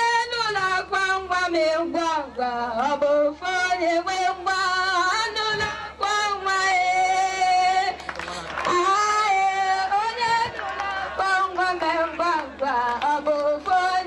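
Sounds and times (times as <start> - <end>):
woman singing: 0.0 - 14.0.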